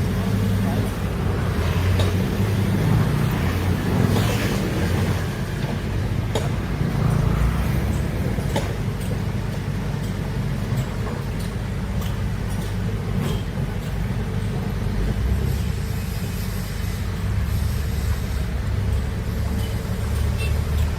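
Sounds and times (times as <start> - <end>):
excavator diesel rumble: 0.0 - 20.9.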